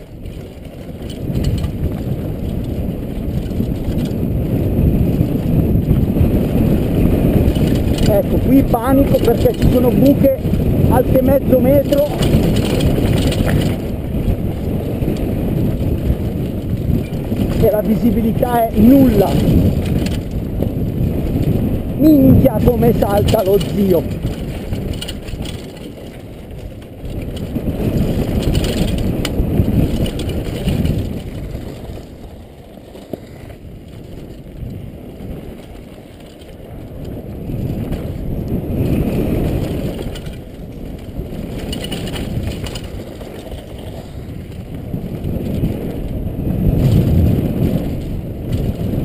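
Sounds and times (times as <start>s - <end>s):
bike clicking and rattling: 0.0s - 49.0s
tyres rumbling on dirt: 0.0s - 49.0s
wind: 0.0s - 49.0s.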